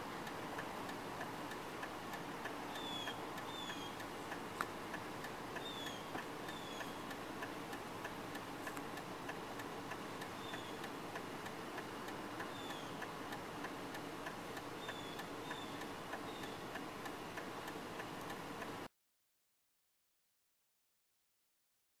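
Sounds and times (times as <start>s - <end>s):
light ticking: 0.0s - 18.9s.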